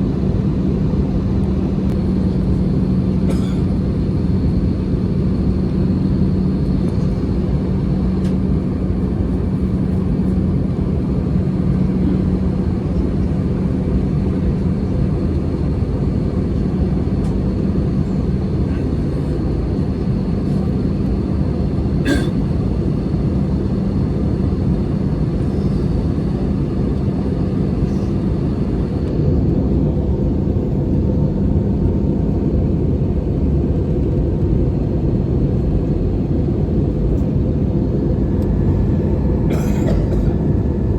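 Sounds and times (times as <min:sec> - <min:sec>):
airliner cabin engine noise: 0:00.0 - 0:40.9.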